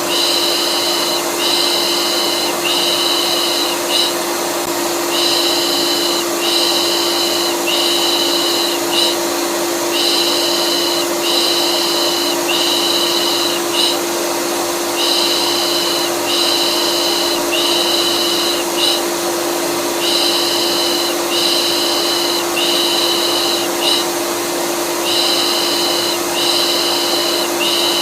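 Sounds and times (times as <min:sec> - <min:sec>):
rhythmic shushing: 0:00.0 - 0:04.3, 0:05.0 - 0:14.1, 0:14.8 - 0:19.1, 0:19.9 - 0:24.2, 0:25.0 - 0:28.0
vacuum cleaner motor running: 0:00.0 - 0:28.0.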